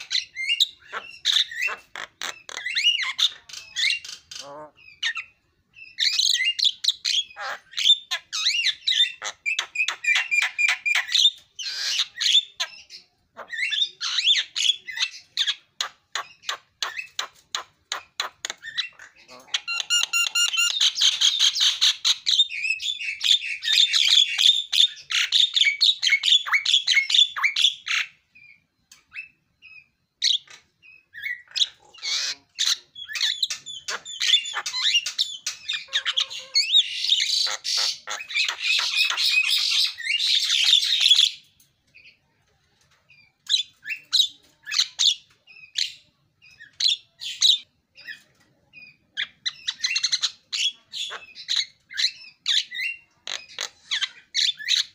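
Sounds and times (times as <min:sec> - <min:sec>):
myna bird singing: 0:00.0 - 0:54.9.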